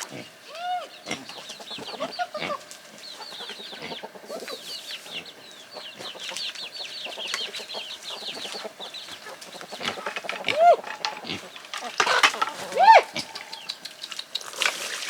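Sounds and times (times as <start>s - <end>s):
chicks peeping: 0.0s - 14.6s
chickens clucking: 0.0s - 15.0s.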